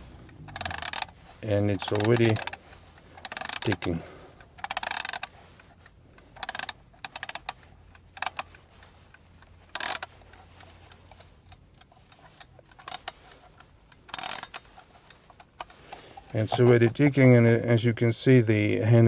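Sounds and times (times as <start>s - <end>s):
faint clock ticking: 0.0s - 17.7s
winding key ratchet clicks: 0.3s - 17.2s.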